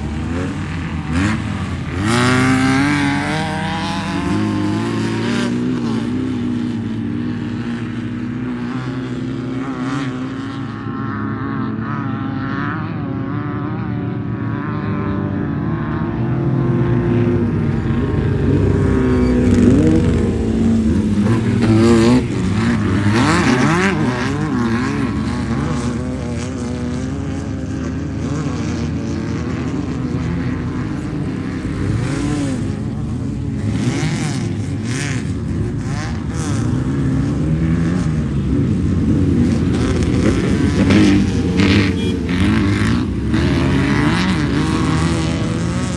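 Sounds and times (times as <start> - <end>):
race car engines revving past: 0.0 - 45.9.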